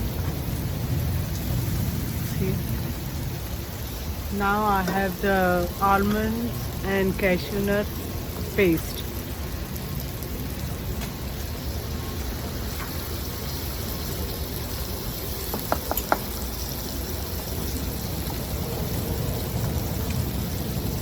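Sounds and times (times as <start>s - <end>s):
sauce sizzling and bubbling in a pan: 0.0s - 21.0s.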